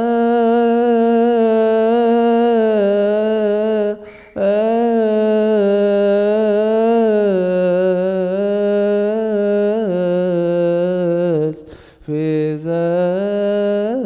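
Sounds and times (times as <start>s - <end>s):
man singing liturgical chant: 0.0s - 14.0s.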